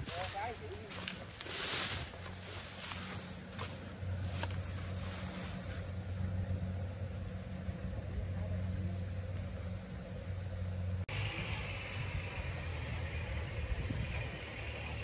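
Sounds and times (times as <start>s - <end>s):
diesel engine humming: 0.0s - 15.0s
machinery whirring: 0.0s - 15.0s.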